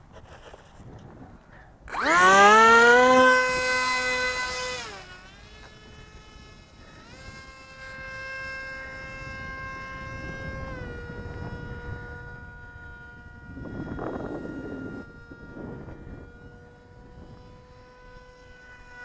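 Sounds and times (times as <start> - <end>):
electric motor and propeller whining: 0.0 - 19.0.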